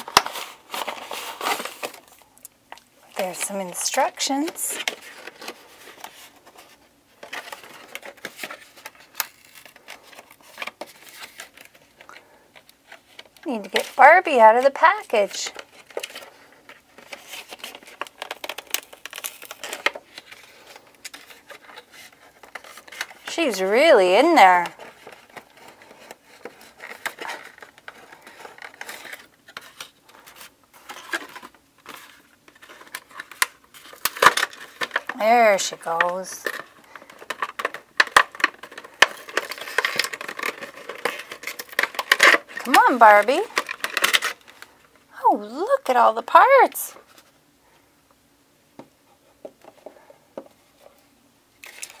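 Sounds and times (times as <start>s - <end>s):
packaging rustling and tapping: 0.0s - 2.2s, 3.2s - 44.9s
plastic scraping: 3.2s - 44.9s.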